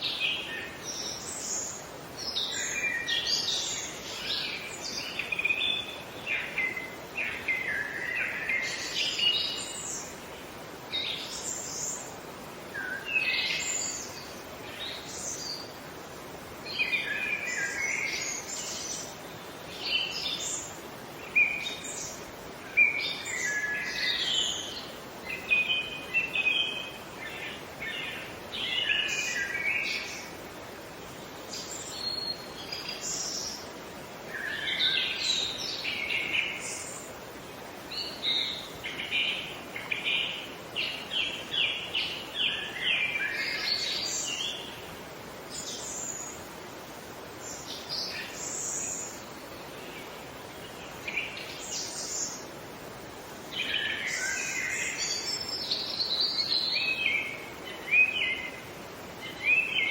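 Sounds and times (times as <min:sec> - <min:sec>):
songbirds singing and chirping: 0:00.0 - 0:59.9
steady background hiss: 0:00.0 - 0:59.9.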